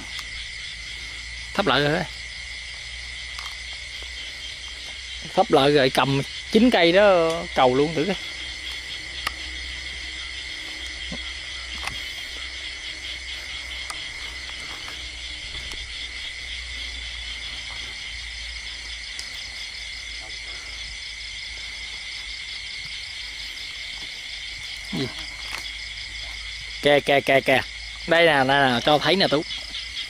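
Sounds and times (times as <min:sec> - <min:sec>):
crickets and insects chirring: 0:00.0 - 0:30.0.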